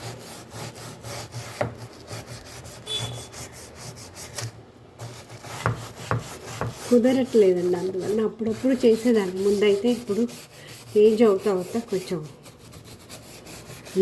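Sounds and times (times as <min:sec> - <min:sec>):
stiff brush scrubbing: 0:00.0 - 0:14.0.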